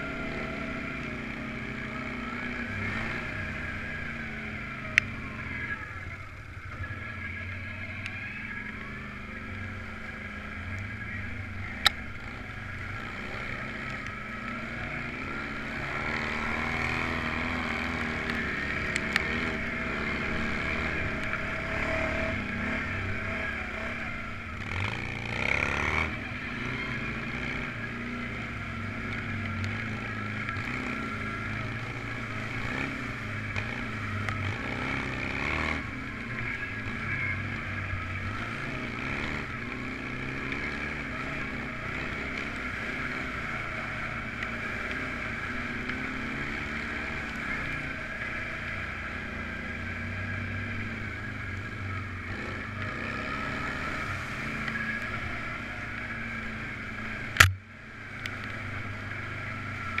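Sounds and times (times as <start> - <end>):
all-terrain vehicle engine running: 0.0 - 60.0.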